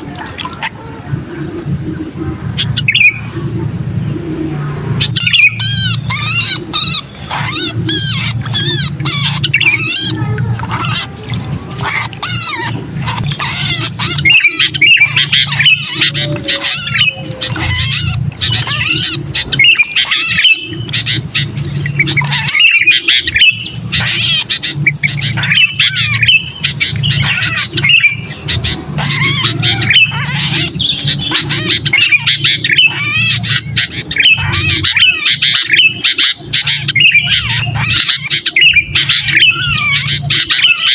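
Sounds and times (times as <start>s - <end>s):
bird distress calls chattering: 0.0s - 40.9s
steady low hum: 0.0s - 40.9s.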